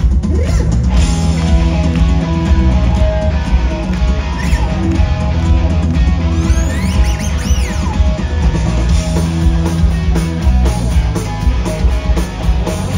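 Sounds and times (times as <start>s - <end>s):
live rock band playing: 0.0s - 12.9s.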